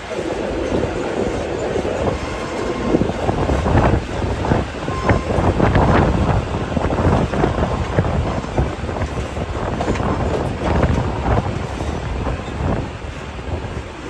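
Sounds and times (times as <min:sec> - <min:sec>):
train wheels rumbling on rails: 0:00.0 - 0:14.0
wind buffeting microphone: 0:00.0 - 0:14.0.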